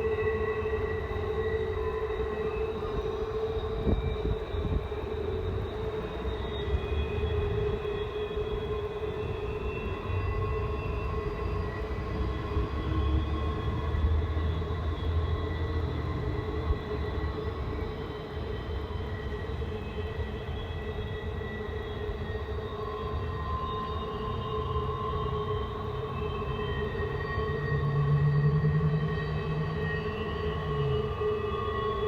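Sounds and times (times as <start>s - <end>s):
long droning tones: 0.0s - 32.0s.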